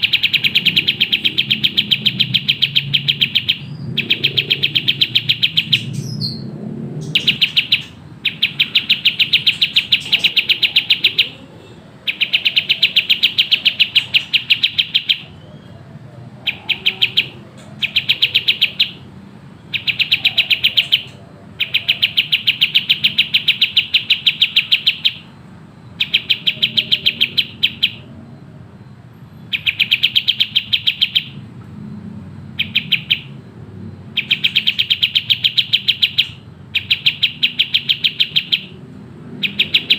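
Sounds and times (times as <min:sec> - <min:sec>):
bird singing fast repeated notes: 0:00.0 - 0:39.9.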